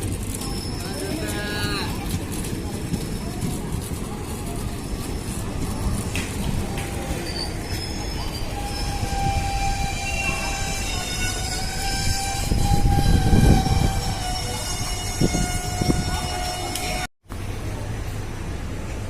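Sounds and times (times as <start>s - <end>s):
wheels squealing: 0.0s - 17.1s
train rumbling: 0.0s - 19.0s.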